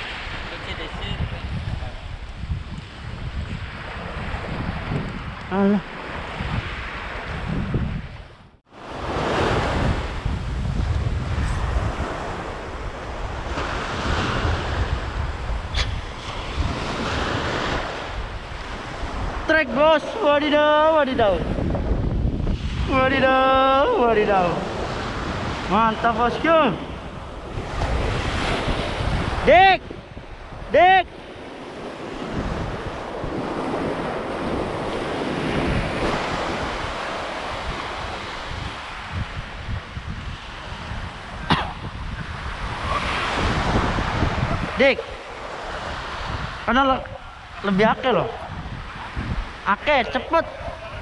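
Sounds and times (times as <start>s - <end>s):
small waves breaking on sand: 0.0s - 51.0s
wind buffeting microphone: 0.0s - 51.0s.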